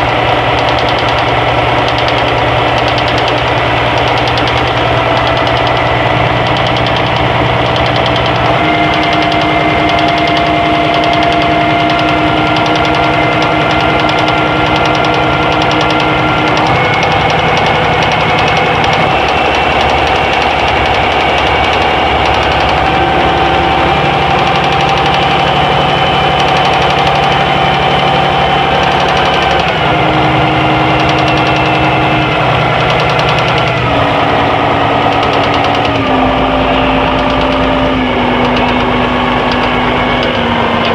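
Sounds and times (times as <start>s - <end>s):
diesel engine knocking: 0.0s - 40.9s
steady tones shifting pitch: 0.0s - 40.9s.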